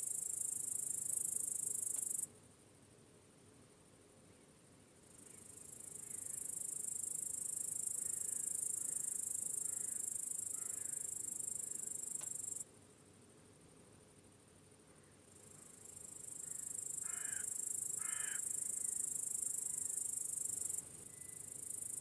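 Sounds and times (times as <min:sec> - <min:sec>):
crickets chirping: 0:00.0 - 0:02.3, 0:04.3 - 0:22.0.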